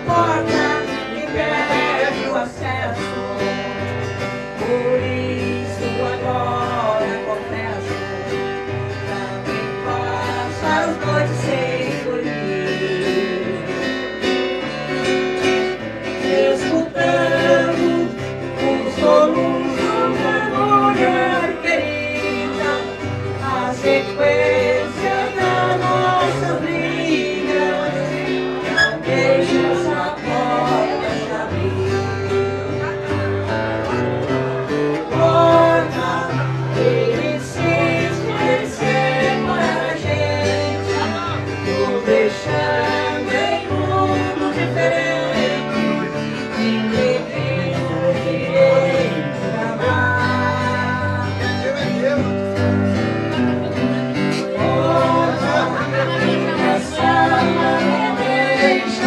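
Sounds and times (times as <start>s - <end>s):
folk guitar plucked and strummed: 0.0s - 59.0s
person singing: 0.0s - 59.0s.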